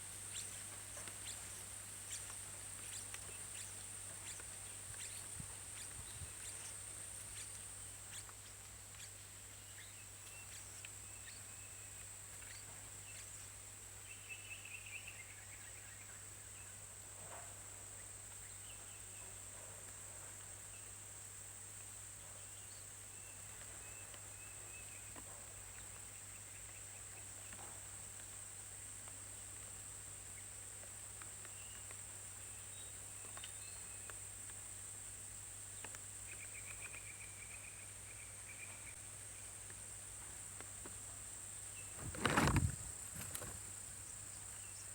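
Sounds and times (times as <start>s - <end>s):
insects droning: 0.0s - 16.9s, 20.4s - 44.9s.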